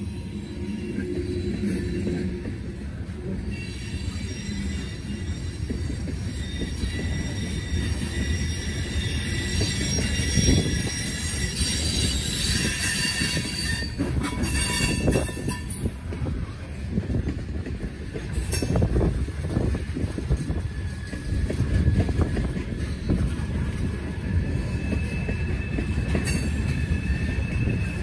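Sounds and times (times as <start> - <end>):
freight train rumbling past: 0.0 - 28.0
train wheels squealing: 0.0 - 28.0.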